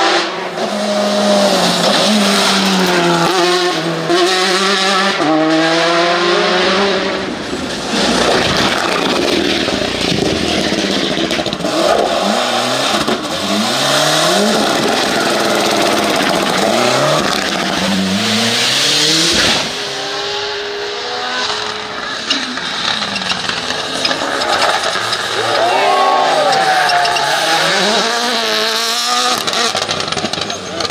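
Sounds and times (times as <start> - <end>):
rally car engines revving: 0.0 - 30.9
tyre and road noise: 0.0 - 30.9.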